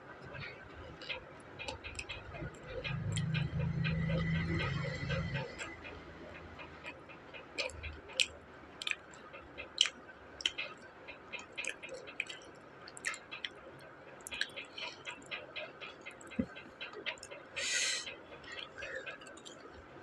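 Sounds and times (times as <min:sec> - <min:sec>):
close-miked chewing: 0:00.2 - 0:17.7.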